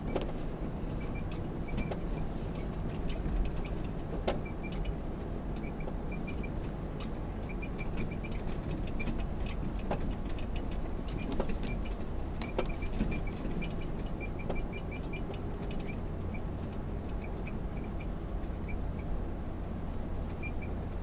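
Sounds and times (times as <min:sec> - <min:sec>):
low road rumble in car cabin: 0:00.0 - 0:21.0
sharp clicks and rattles: 0:01.0 - 0:19.1.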